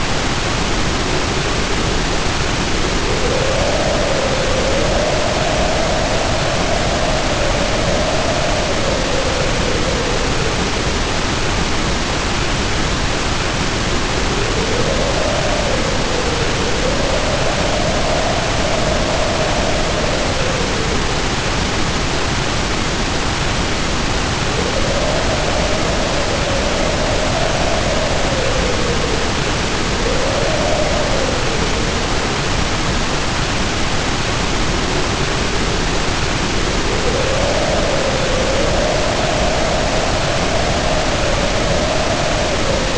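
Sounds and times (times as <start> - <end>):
heavy rain pouring: 0.0 - 42.9
wind howling in gusts: 0.0 - 42.9.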